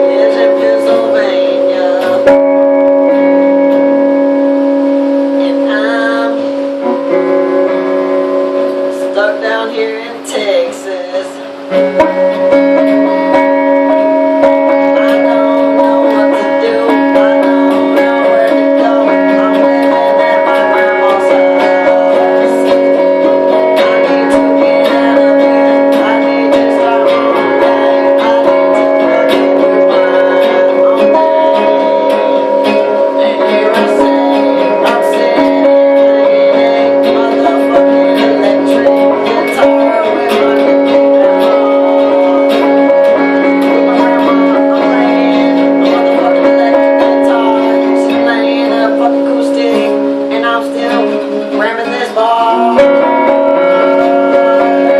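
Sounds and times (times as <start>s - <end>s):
person singing short phrases: 0.0s - 2.4s, 5.3s - 6.6s, 8.9s - 54.9s
guitar playing: 0.0s - 54.9s
held instrument notes: 0.0s - 54.9s.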